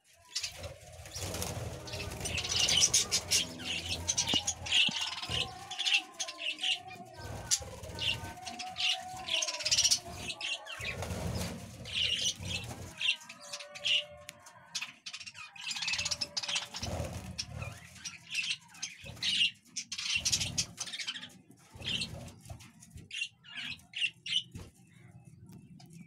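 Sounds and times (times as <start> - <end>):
wing flutters: 0.1 - 14.0, 15.8 - 22.8.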